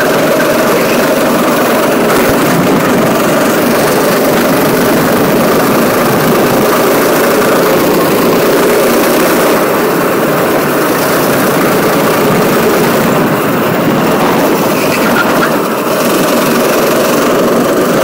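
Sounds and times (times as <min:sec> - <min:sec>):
go-kart engine running: 0:00.0 - 0:18.0.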